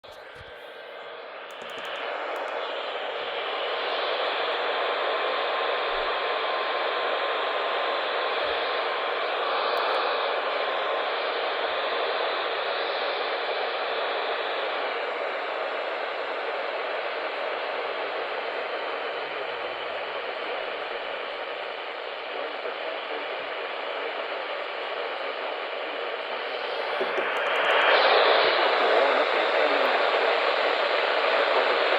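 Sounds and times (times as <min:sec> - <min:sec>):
radio static hiss: 0:00.0 - 0:31.9.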